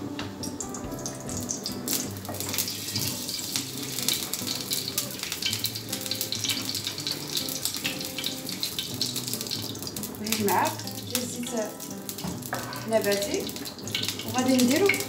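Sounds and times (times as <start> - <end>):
oil sizzling in a frying pan: 0.0 - 15.0.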